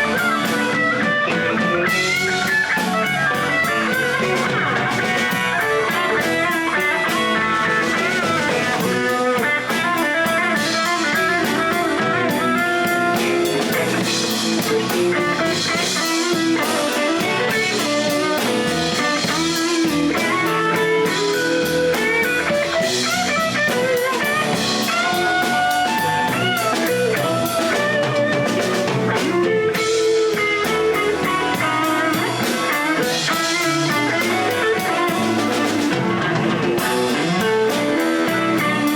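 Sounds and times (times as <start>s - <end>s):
blues band playing live: 0.0s - 38.9s
drum kit: 0.0s - 38.9s
electric guitar with bent notes: 0.0s - 38.9s.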